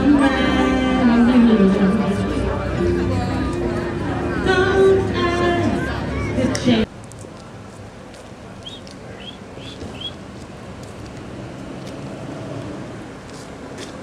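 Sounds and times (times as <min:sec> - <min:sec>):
street background noise: 0:00.0 - 0:14.0.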